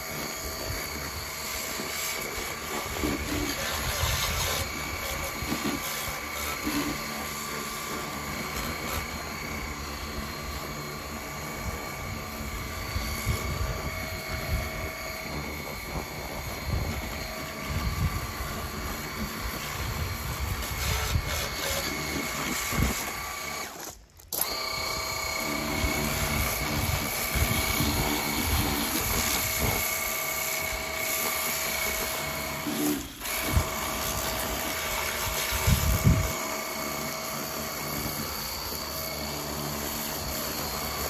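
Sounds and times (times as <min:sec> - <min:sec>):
pressure washer whine: 0:00.0 - 0:41.0.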